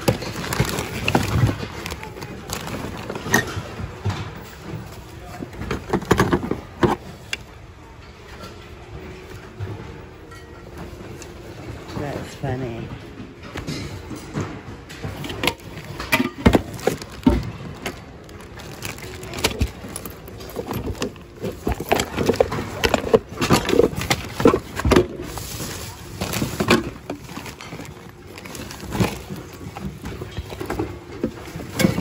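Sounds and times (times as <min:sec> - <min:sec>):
plastic items clattering: 0:00.0 - 0:32.0.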